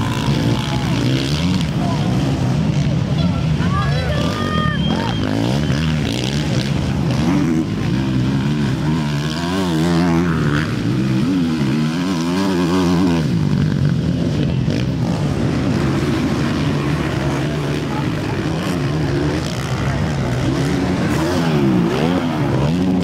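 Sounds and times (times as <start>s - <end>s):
motocross bikes revving past: 0.0s - 23.0s.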